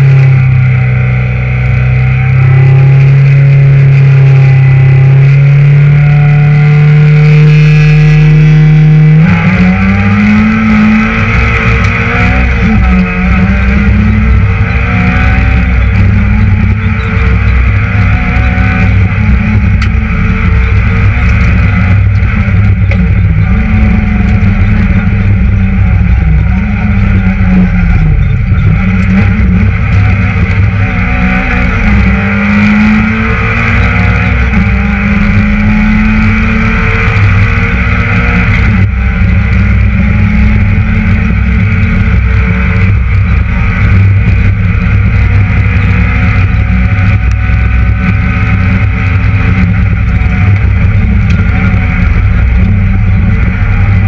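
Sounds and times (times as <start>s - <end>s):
car engine revving at high revs: 0.0s - 54.0s.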